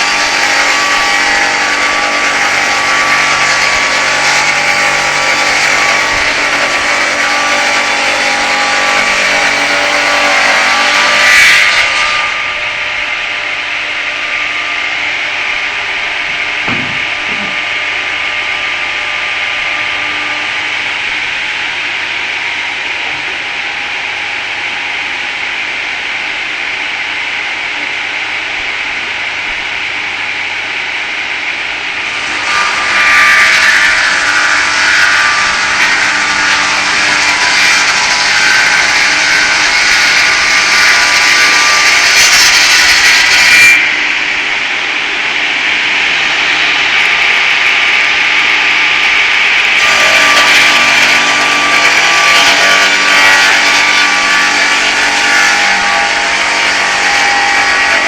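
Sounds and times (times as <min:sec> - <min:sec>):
saw cutting into log: 0:00.0 - 0:24.4, 0:32.0 - 0:44.8, 0:46.0 - 0:58.0.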